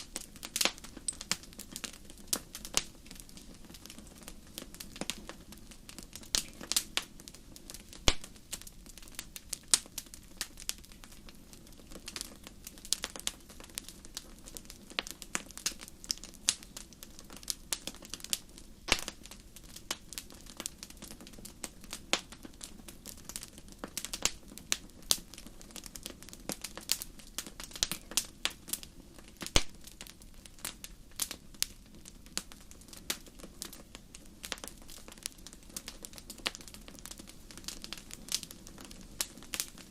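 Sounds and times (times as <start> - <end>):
low hiss of burning: 0.0 - 39.9
wood fire crackling: 0.0 - 39.9.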